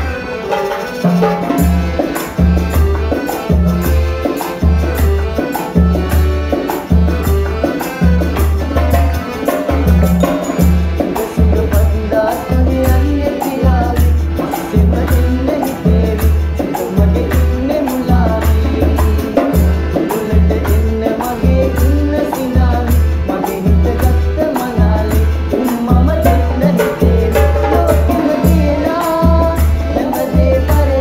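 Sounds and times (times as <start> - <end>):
accordion melody: 0.0 - 31.0
hand drums: 0.0 - 31.0.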